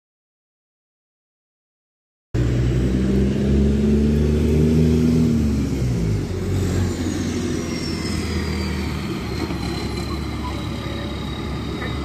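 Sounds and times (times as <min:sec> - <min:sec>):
bus engine driving past: 0:02.4 - 0:12.0.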